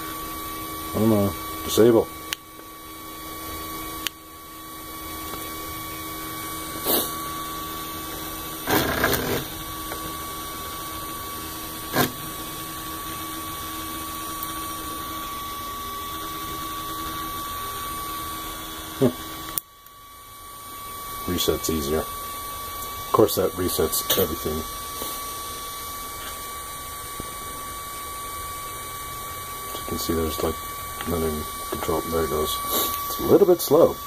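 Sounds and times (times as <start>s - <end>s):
electrical hum with high whine: 0.0s - 34.0s.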